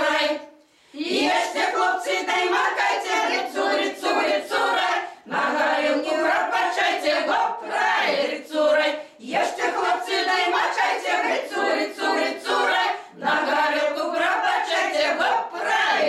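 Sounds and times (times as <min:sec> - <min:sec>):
women singing a cappella: 0:00.0 - 0:16.0.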